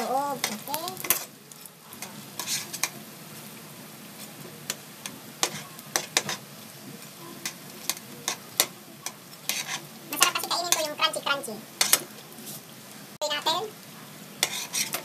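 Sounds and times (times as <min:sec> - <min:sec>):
spring rolls deep-frying in oil: 0:00.0 - 0:15.0.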